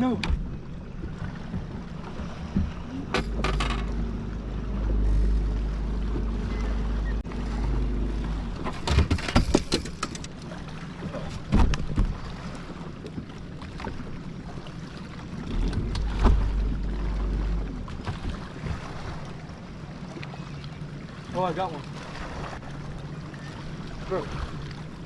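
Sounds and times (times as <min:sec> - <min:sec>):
faint wash of water: 0:00.0 - 0:09.0, 0:10.1 - 0:25.0.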